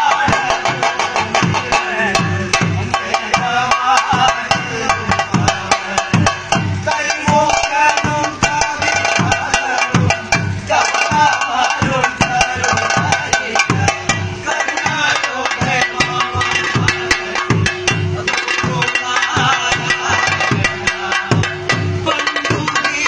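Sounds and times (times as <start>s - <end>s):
drum beats: 0.0s - 23.0s
hand cymbals clicking: 0.0s - 23.0s
person chanting: 0.0s - 23.0s.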